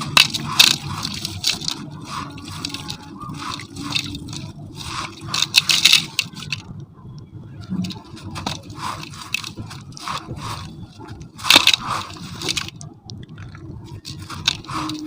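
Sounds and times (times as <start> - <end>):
sand cement scraping metal container: 0.0 - 6.6, 7.7 - 12.7, 13.9 - 15.0.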